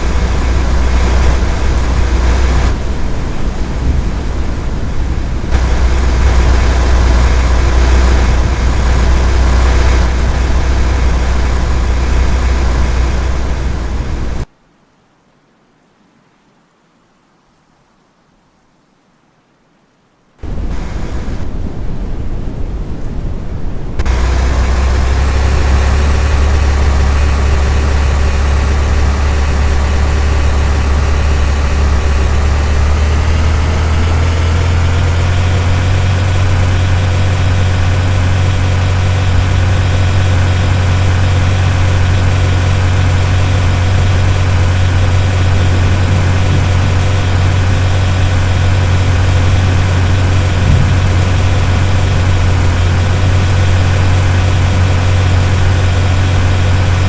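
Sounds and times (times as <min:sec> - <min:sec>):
engine running with low hum: 0:00.0 - 0:14.5, 0:20.4 - 0:21.5, 0:24.0 - 0:57.0.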